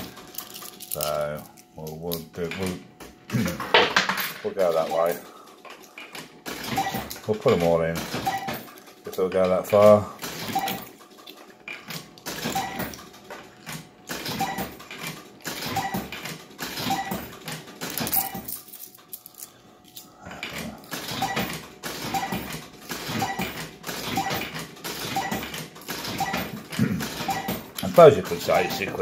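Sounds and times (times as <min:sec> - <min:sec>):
coins clinking into machine: 0:00.0 - 0:02.7, 0:06.5 - 0:13.0, 0:14.1 - 0:20.1, 0:20.9 - 0:29.0.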